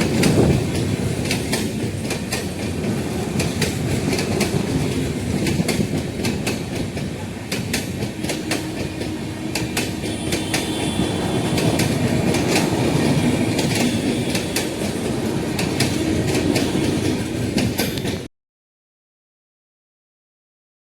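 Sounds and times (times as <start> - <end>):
train rumbling on track: 0.0 - 18.3
wheels clicking over rail joints: 0.0 - 18.3.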